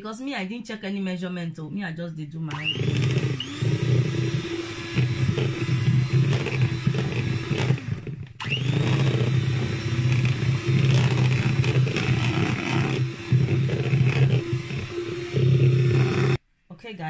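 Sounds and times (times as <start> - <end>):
electric hand mixer in batter: 2.5 - 16.4.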